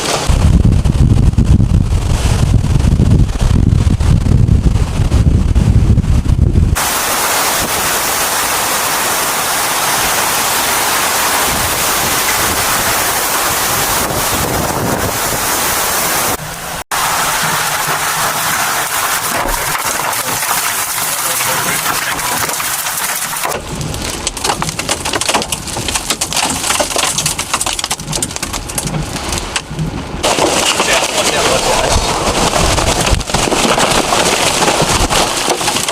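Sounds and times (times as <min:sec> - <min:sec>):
heavy rain and wind: 0:00.0 - 0:35.9
low rumbling and crackle: 0:00.0 - 0:35.9.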